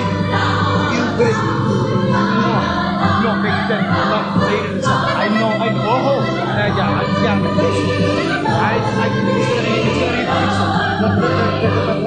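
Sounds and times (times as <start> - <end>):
chorus singing: 0.0 - 12.0
orchestra playing: 0.0 - 12.0.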